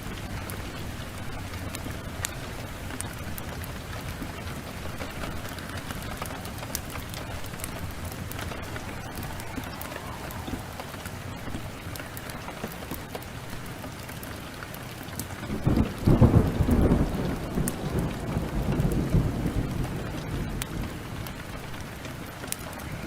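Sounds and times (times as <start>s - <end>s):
heavy rain: 0.0s - 23.0s
thunder rumbling: 0.0s - 23.0s
wood fire crackling: 0.0s - 23.0s.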